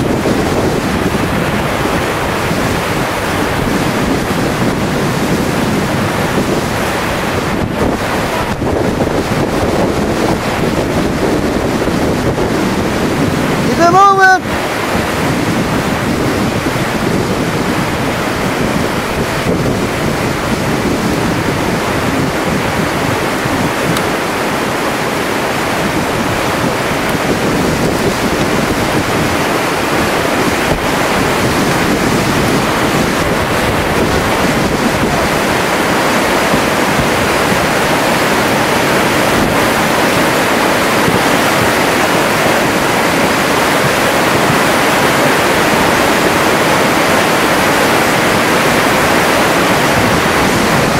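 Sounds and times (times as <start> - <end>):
flood water rushing: 0.0 - 50.9.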